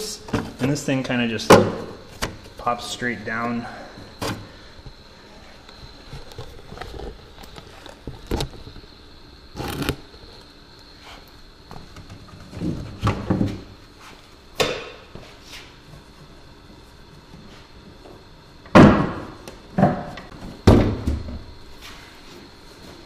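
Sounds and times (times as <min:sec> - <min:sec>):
faint steady high whine: 0:00.0 - 0:23.0.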